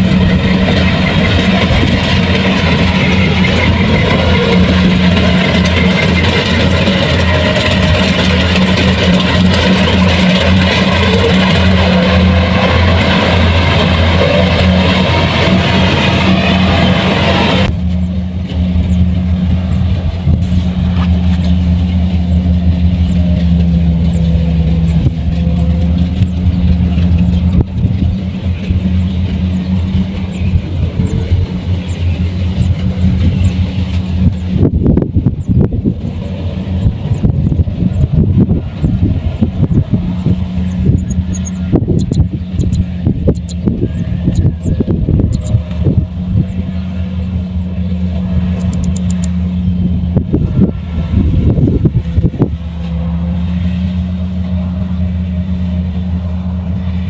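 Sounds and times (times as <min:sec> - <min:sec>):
harvester engine drone: 0:00.0 - 0:57.0
rushing mechanical noise: 0:00.0 - 0:57.0.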